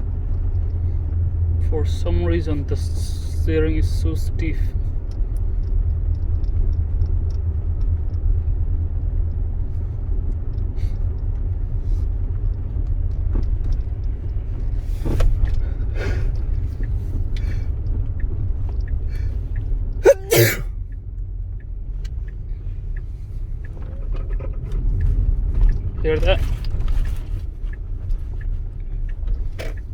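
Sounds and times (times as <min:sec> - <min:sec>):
low car cabin rumble: 0:00.0 - 0:29.9.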